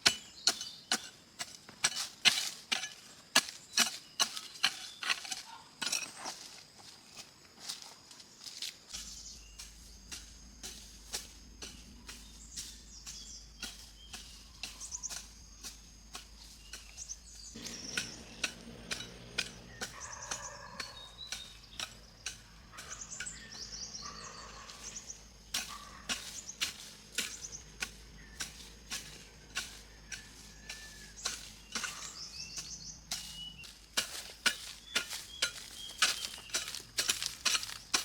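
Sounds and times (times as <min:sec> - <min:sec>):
birds chirping: 0:00.0 - 0:01.3, 0:08.3 - 0:38.0.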